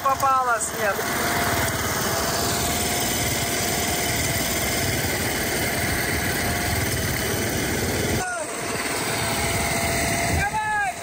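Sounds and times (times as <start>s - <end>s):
faint steady whine: 0.0s - 11.0s
small engine running: 0.0s - 11.0s.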